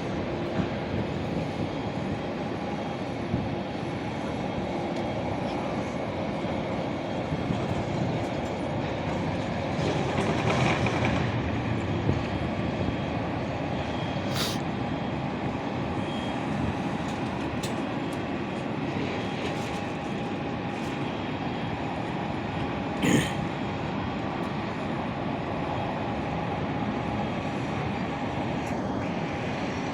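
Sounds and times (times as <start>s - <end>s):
aeroplane rumbling on ground: 0.0s - 29.9s.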